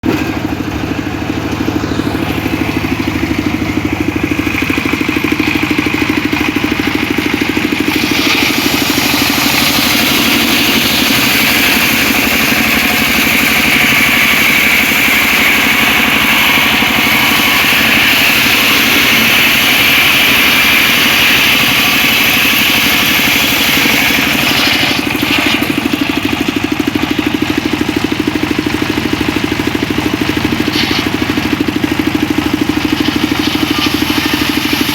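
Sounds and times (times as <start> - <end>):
engine drone: 0.0 - 34.9
circular saw cutting wood: 0.6 - 34.9.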